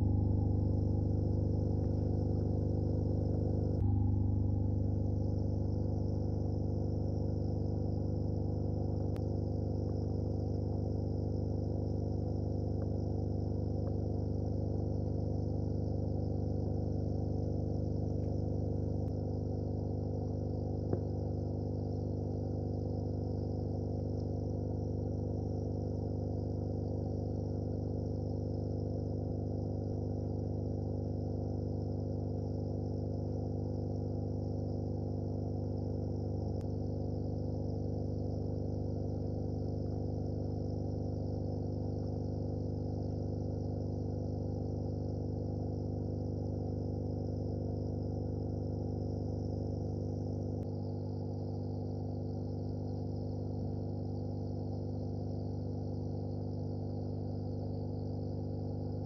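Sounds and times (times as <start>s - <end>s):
faint high whine: 0.0s - 59.0s
steady droning hum: 0.0s - 59.0s.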